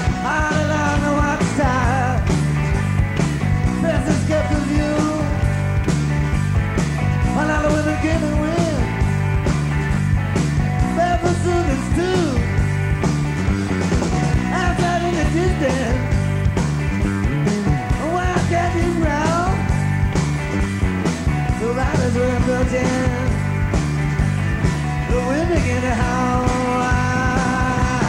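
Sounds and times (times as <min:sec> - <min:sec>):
drums and bass: 0:00.0 - 0:28.0.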